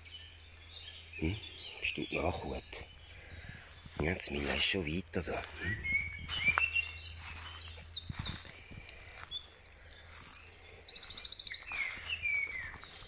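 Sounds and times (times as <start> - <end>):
songbirds singing and chirping: 0.0 - 13.0.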